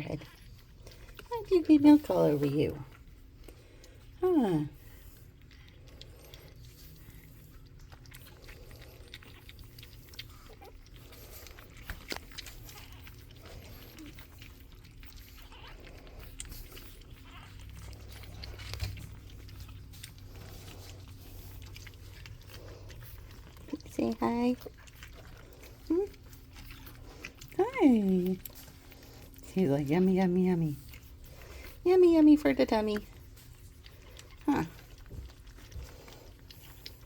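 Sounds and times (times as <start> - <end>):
puppy grunting and snuffling: 0.0 - 37.0.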